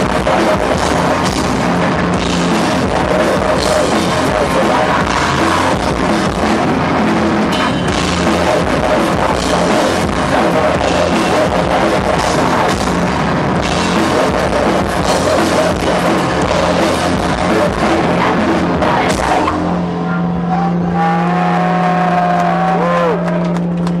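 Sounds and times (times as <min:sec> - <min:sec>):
metal band playing live: 0:00.0 - 0:23.9
wavering guitar tones: 0:00.0 - 0:23.9.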